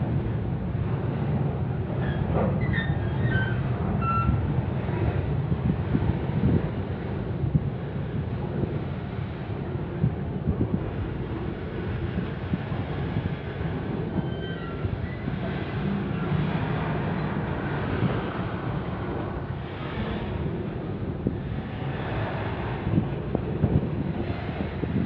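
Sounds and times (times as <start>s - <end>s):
freight train rumbling: 0.0s - 25.0s.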